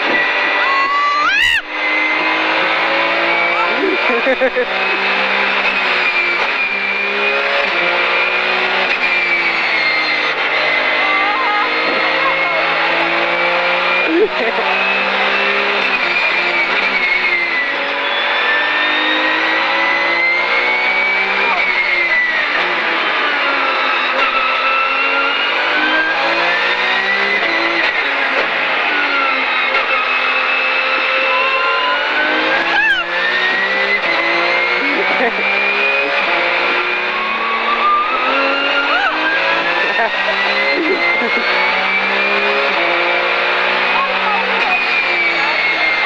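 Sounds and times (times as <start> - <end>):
race car engine running: 0.0 - 46.0
road noise: 0.0 - 46.0.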